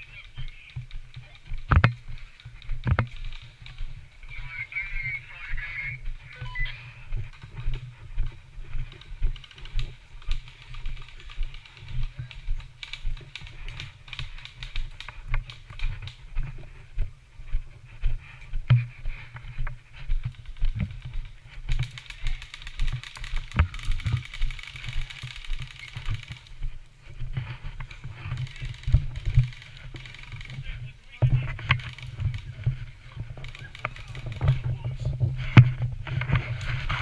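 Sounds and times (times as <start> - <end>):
gear clicking and rattling: 0.0 - 16.7, 18.2 - 37.0
footsteps walking: 0.0 - 37.0.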